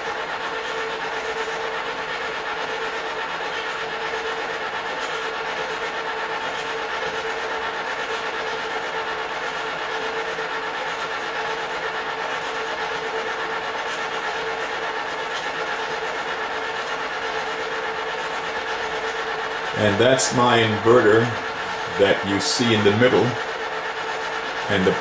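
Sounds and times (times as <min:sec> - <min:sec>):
popcorn machines humming: 0:00.0 - 0:25.0.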